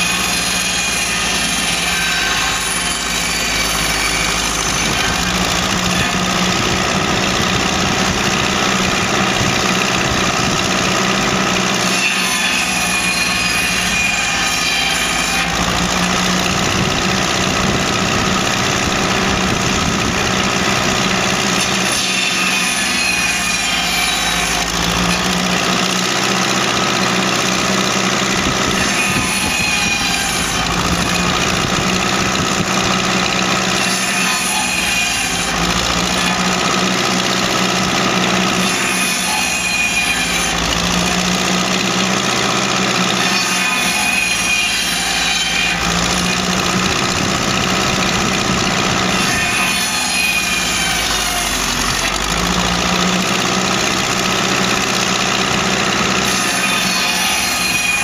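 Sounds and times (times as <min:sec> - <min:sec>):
circular saw cutting logs: 0:00.0 - 0:58.0
tractor engine running: 0:00.0 - 0:58.0.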